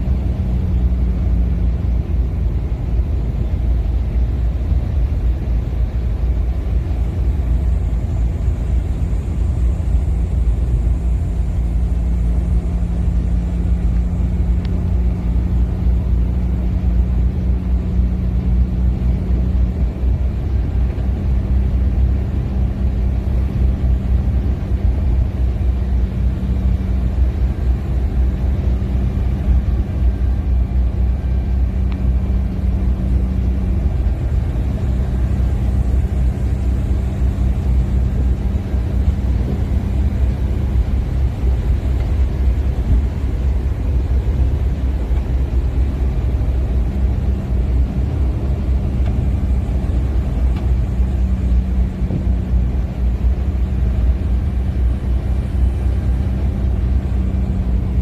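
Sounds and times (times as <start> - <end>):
low hum: 0.0 - 58.0
vehicle rumbling: 0.0 - 58.0.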